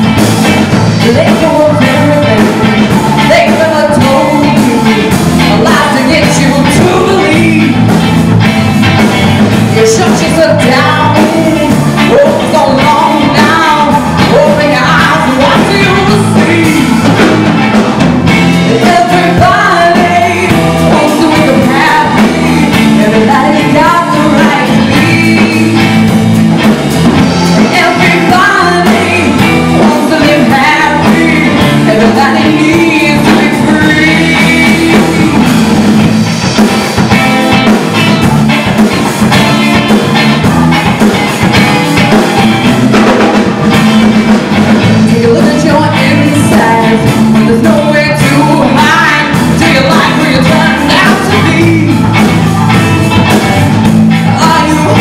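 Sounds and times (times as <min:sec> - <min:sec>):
drum kit: 0:00.0 - 0:55.0
electric bass: 0:00.0 - 0:55.0
electric guitar: 0:00.0 - 0:55.0
woman singing lead: 0:00.0 - 0:55.0.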